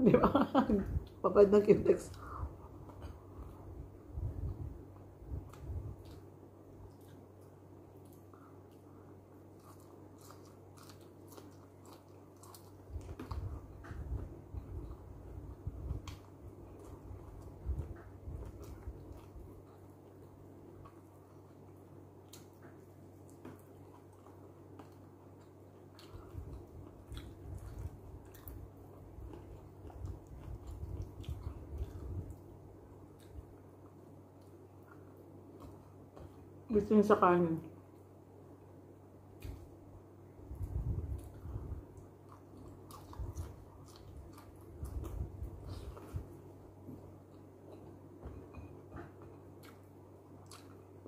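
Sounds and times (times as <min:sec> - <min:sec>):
close chewing and mouth sounds: 0:02.1 - 0:36.7, 0:37.6 - 0:51.0.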